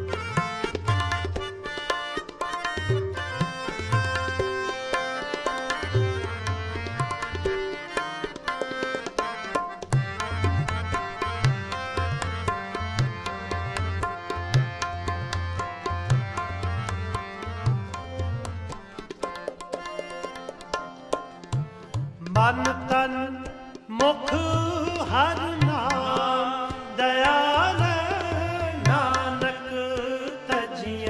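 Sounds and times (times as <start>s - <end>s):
harmonium: 0.0s - 31.0s
tabla playing: 0.0s - 31.0s.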